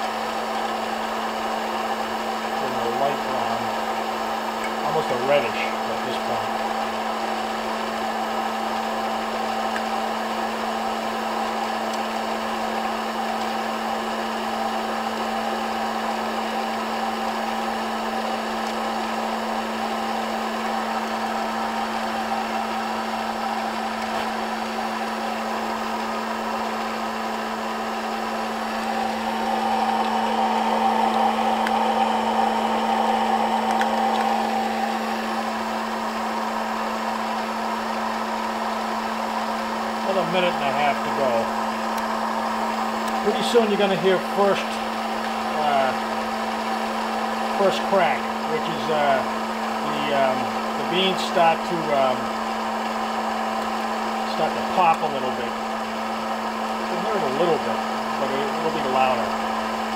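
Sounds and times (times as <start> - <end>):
low motor hum: 0.0 - 59.9
popcorn popper fan whirring: 0.0 - 59.9.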